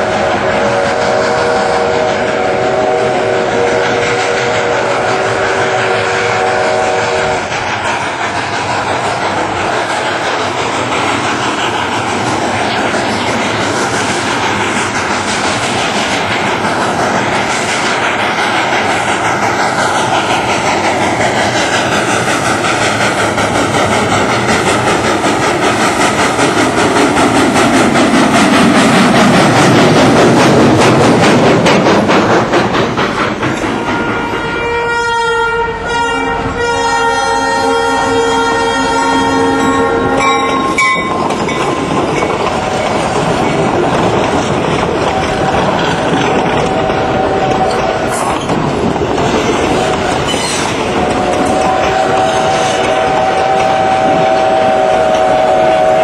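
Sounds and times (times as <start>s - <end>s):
steam locomotive exhaust beating: 0.0s - 56.0s.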